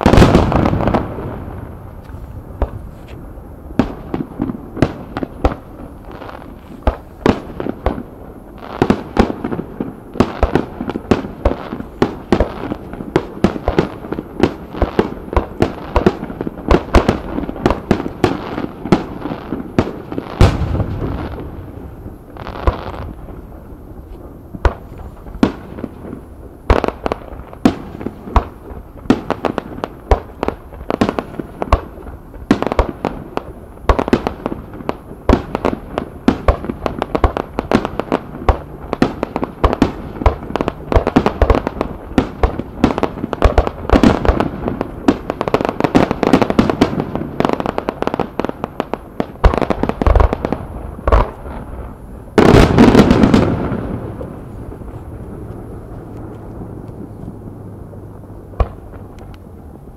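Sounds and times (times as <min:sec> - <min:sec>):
fireworks bursting in sharp bangs: 0:00.0 - 0:57.5, 0:58.5 - 0:59.4.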